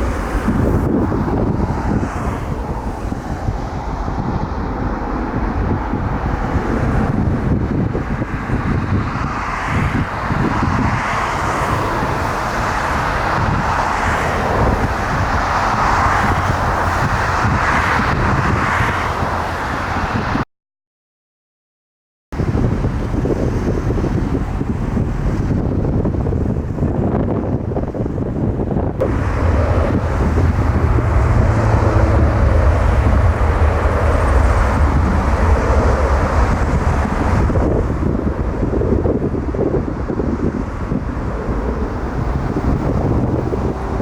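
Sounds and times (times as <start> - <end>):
jet engine noise: 0.0 - 20.4, 22.4 - 44.0
wind buffeting microphone: 0.0 - 20.4, 22.3 - 44.0.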